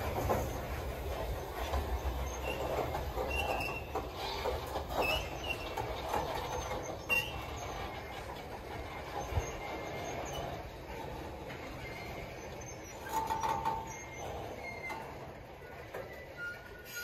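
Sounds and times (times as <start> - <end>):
freight train rumble: 0.0 - 17.0
wheels knocking over rail joints: 0.0 - 17.0
high-pitched wheel squeals: 0.2 - 17.0.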